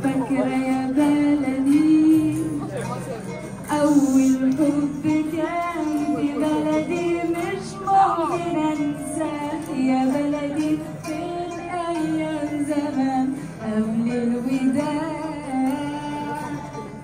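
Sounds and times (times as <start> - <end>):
guitar accompaniment: 0.0 - 17.0.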